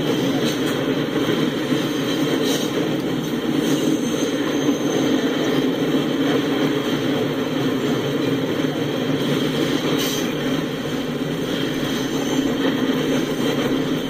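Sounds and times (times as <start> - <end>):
freight train rumbling over steel bridge: 0.0 - 14.0.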